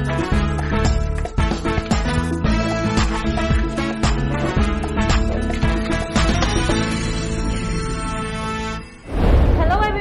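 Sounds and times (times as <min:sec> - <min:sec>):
upbeat theme music: 0:00.0 - 0:09.0.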